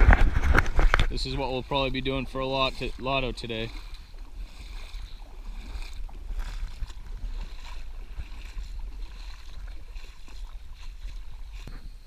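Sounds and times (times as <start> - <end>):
boots splashing through muddy water: 0.0 - 12.0.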